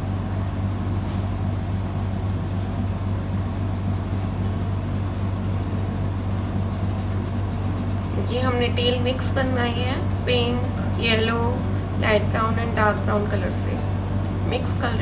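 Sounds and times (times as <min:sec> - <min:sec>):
pencil scratching on paper: 0:00.0 - 0:13.8
low electrical hum: 0:00.0 - 0:15.0.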